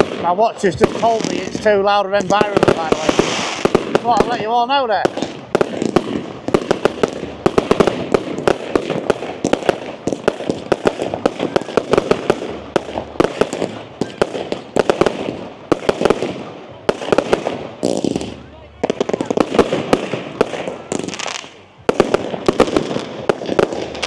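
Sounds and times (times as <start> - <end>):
fireworks cracking and banging: 0.0 - 24.0.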